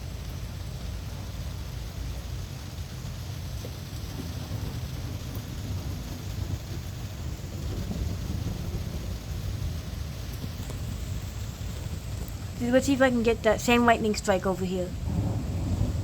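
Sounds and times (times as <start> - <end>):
rain hiss: 0.0 - 16.0
rolling thunder rumble: 0.0 - 16.0.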